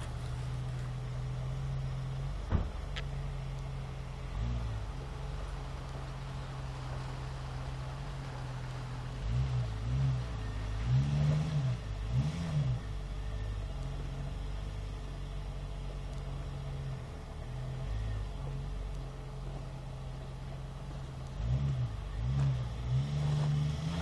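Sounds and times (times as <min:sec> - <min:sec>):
car engine idling at low revs: 0:00.0 - 0:24.0
car engine throttle blips: 0:00.0 - 0:24.0.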